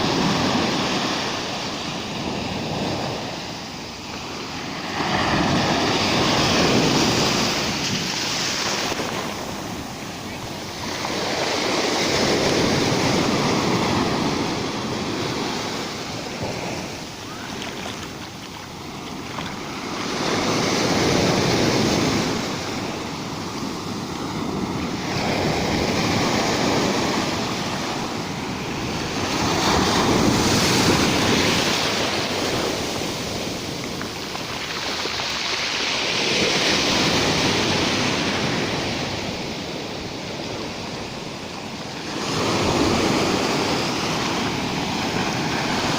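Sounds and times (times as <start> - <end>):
waves breaking on the shore: 0.0 - 45.9.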